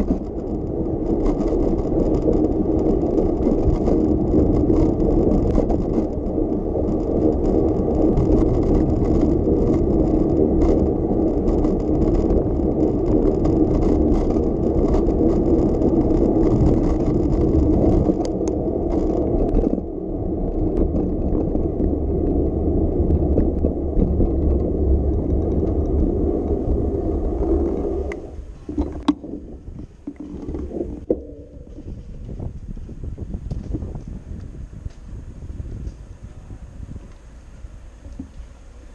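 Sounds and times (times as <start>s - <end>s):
bicycle riding rumble: 0.0s - 38.9s
bike rattling and clicking: 0.0s - 38.9s.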